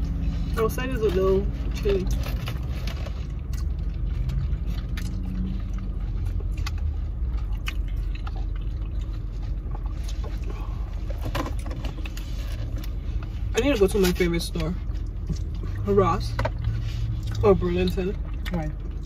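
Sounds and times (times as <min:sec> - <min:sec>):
idling car hum: 0:00.0 - 0:19.0
person chewing: 0:01.6 - 0:15.9, 0:16.5 - 0:19.0.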